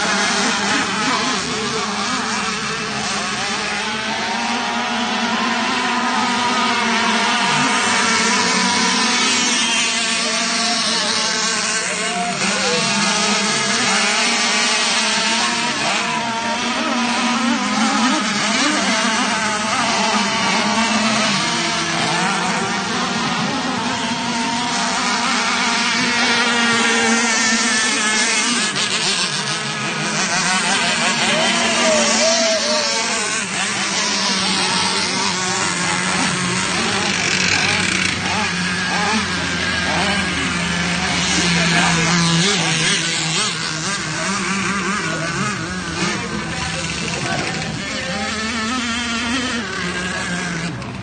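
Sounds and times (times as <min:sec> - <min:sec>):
model speedboat motors racing: 0:00.0 - 0:51.0.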